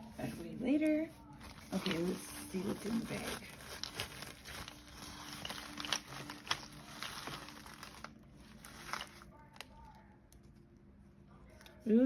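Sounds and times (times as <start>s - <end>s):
bag crinkling and rustling: 0.0s - 9.9s.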